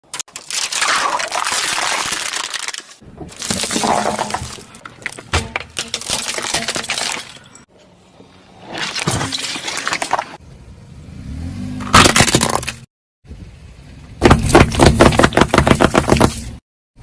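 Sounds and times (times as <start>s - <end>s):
objects crunching under car tyres: 0.0s - 10.4s, 11.4s - 12.9s, 14.2s - 16.6s.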